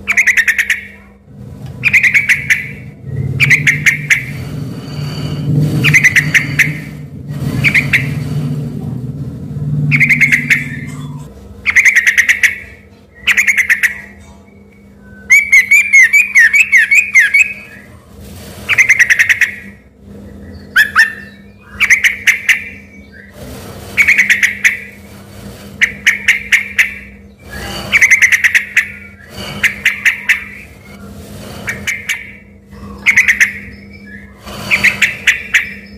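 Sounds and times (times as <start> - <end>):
bird chattering and warbling: 0.0 - 8.6, 9.8 - 18.0, 18.6 - 35.9.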